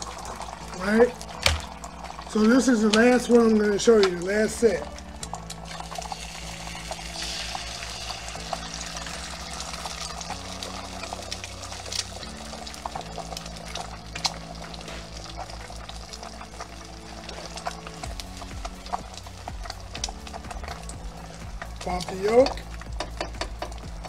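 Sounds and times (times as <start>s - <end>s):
eggs sizzling in a pan: 0.0s - 24.0s.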